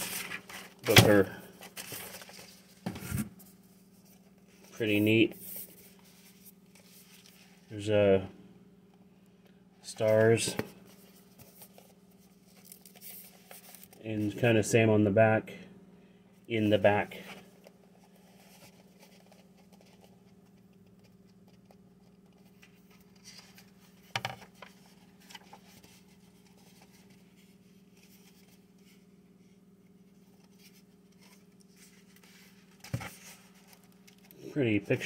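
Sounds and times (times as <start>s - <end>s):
book pages rustling: 0.0s - 7.7s, 10.0s - 14.0s, 17.2s - 34.4s
steady low hum: 0.0s - 35.0s.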